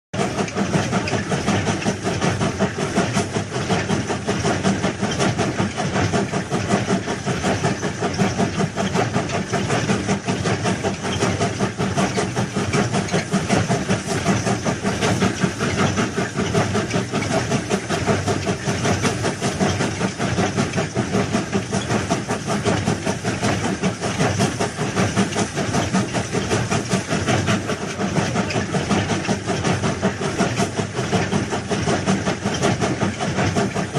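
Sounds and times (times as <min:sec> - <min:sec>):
heavy machine engine: 0:00.2 - 0:33.9.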